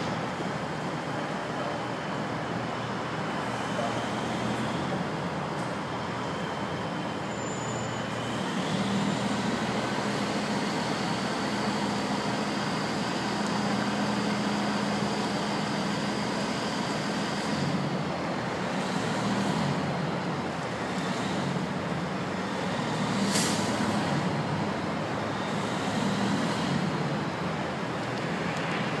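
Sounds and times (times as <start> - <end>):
crane diesel engines running: 0.0 - 29.0.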